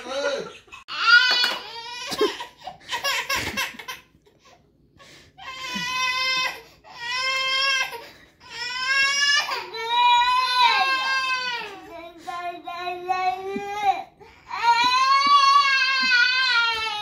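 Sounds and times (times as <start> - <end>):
baby crying: 0.7 - 4.0, 5.4 - 17.0.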